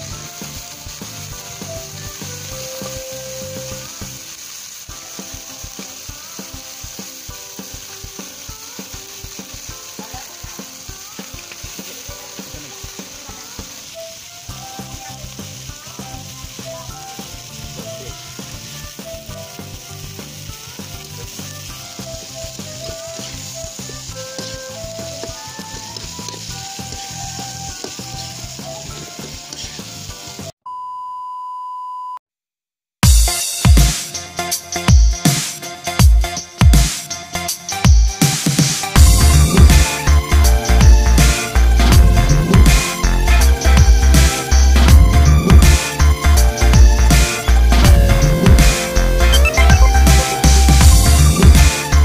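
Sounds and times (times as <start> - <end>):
prawns sizzling in hot oil: 0.0 - 30.6, 33.0 - 52.0.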